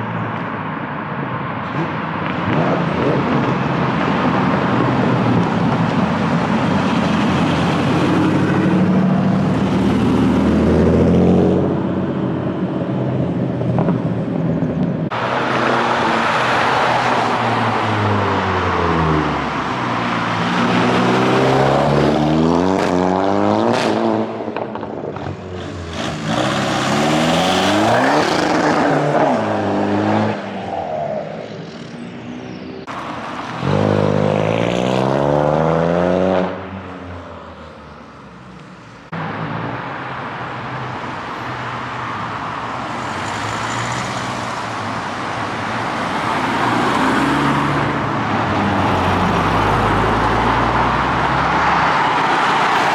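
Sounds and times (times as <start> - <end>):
cars revving and accelerating past: 0.0 - 52.9.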